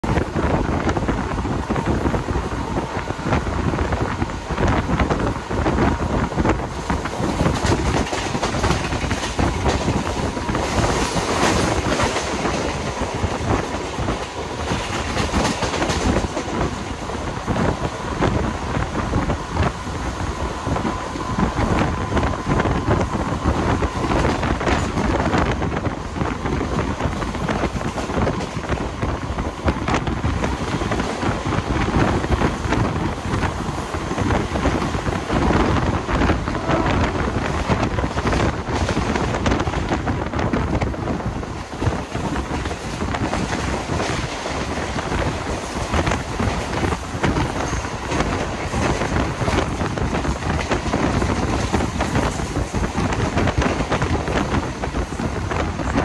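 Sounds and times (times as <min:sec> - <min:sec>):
train wheels rumbling on rails: 0:00.0 - 0:56.0
wind rushing over microphone: 0:00.0 - 0:56.0.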